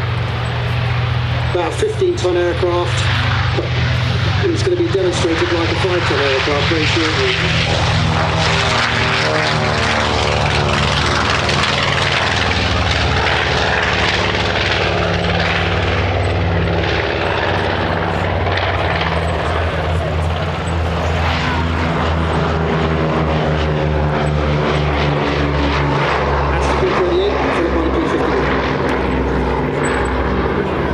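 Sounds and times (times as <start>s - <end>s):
propeller engines droning: 0.0s - 30.9s.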